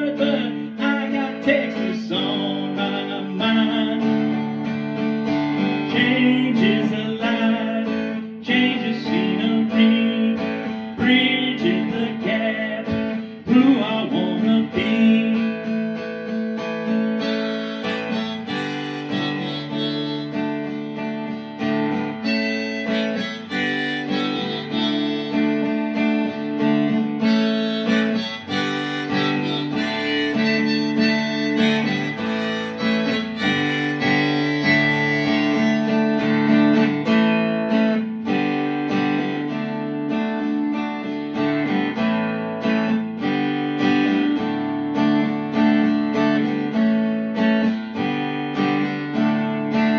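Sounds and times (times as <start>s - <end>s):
harmonica melody: 0.0s - 40.2s
acoustic guitar strumming: 0.0s - 49.9s.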